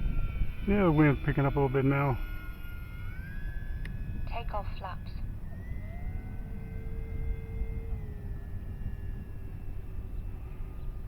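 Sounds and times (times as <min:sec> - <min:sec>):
model plane motor whining: 0:00.0 - 0:11.0
wind rumbling on microphone: 0:00.0 - 0:11.0.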